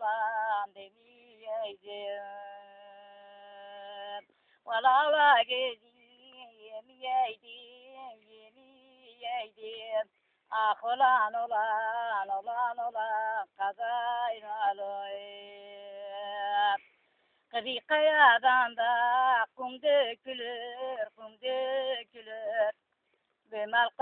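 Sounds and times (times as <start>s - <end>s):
woman singing: 0.0s - 16.9s, 17.5s - 22.8s, 23.5s - 24.0s.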